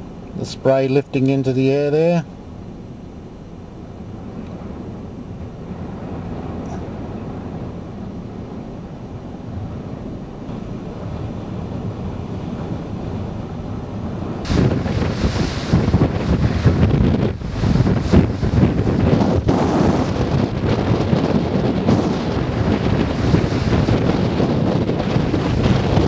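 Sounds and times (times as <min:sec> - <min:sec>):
strong wind buffeting microphone: 0:01.5 - 0:26.0.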